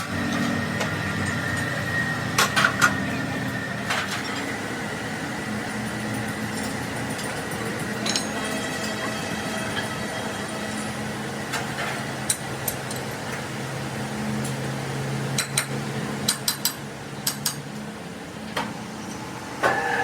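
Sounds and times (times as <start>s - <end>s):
machine hum: 0.0s - 16.2s.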